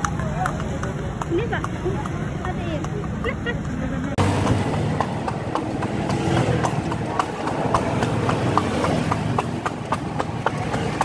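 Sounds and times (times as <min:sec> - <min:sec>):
hooves clip-clopping on asphalt: 0:00.0 - 0:11.0.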